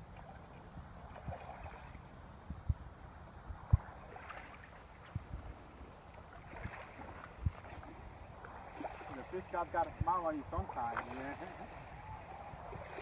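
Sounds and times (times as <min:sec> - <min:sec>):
faint outdoor background noise: 0:00.0 - 0:13.0
wind buffeting microphone: 0:00.0 - 0:13.0.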